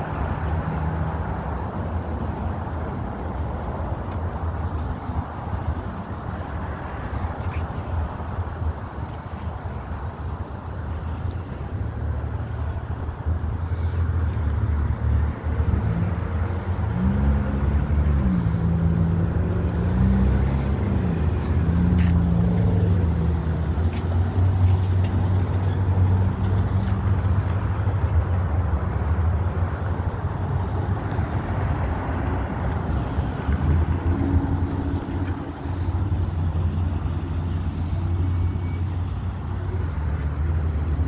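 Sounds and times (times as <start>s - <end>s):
low traffic rumble: 0.0s - 41.0s.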